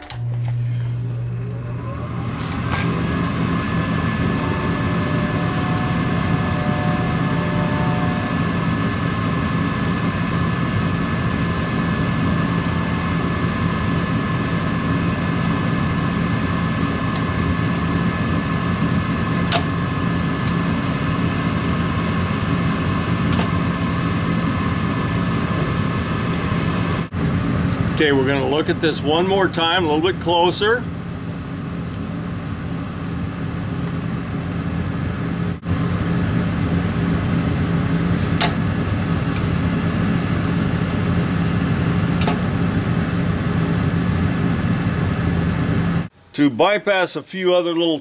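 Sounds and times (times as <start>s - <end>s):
furnace inducer motor humming: 0.0s - 46.3s.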